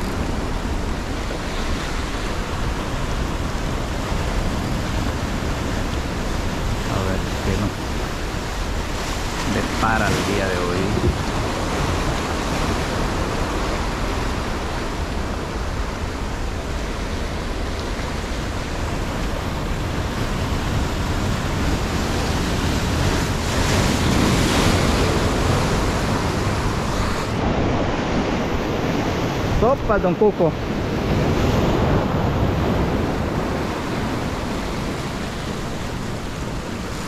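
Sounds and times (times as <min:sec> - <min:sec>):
surf breaking over rocks: 0:00.0 - 0:37.0.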